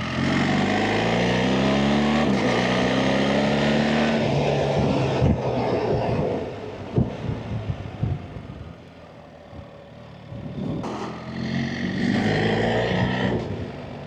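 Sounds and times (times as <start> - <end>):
motorcycle engine accelerating: 0.0 - 8.6, 9.6 - 14.0.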